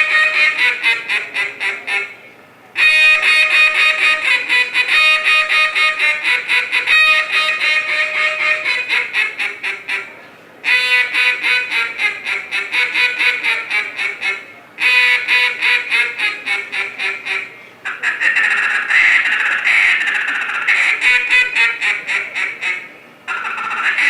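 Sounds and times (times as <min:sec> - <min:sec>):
duck call quacking notes: 0:00.0 - 0:24.0.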